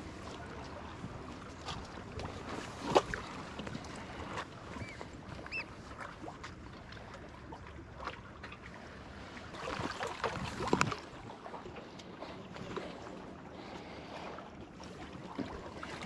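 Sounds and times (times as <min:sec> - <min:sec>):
light wind: 0:00.0 - 0:16.0
water lapping against rocks: 0:00.0 - 0:16.0.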